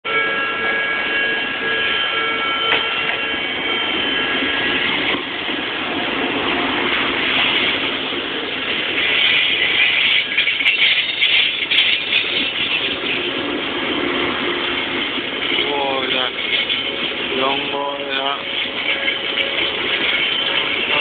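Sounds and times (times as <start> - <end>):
level crossing warning bell: 0.0 - 21.0
train rushing rumble: 0.1 - 21.0.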